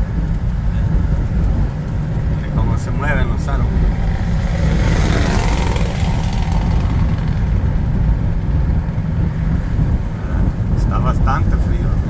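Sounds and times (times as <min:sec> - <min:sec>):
faint street traffic: 0:00.0 - 0:12.0
wind buffeting microphone: 0:00.0 - 0:12.0.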